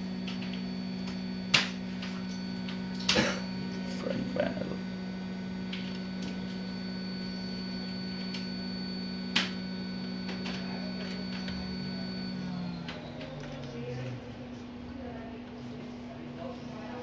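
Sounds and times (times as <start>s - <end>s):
high whine: 0.0s - 14.0s
low electrical hum: 0.0s - 17.0s.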